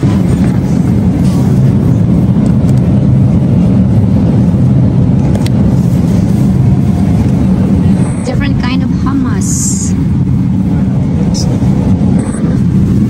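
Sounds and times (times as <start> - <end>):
refrigerated display case fans rumbling: 0.0 - 13.0.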